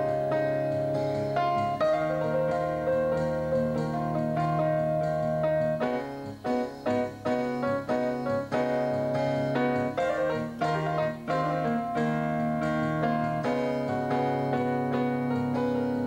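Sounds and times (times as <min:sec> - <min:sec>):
electronic keyboard piano melody: 0:00.0 - 0:16.0.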